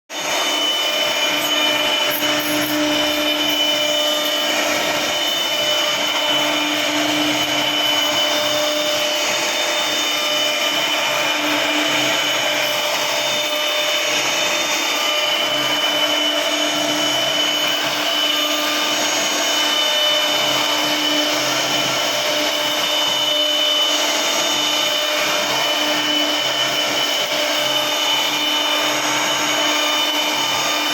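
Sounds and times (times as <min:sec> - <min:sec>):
router spindle whining: 0:00.1 - 0:30.9.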